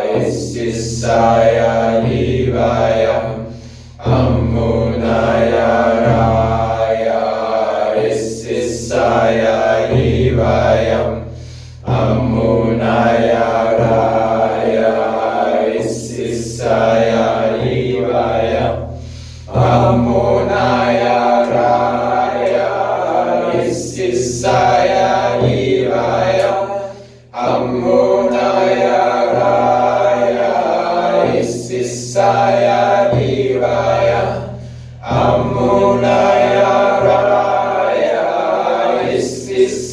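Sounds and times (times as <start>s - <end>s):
mantra chanting: 0.0s - 39.9s.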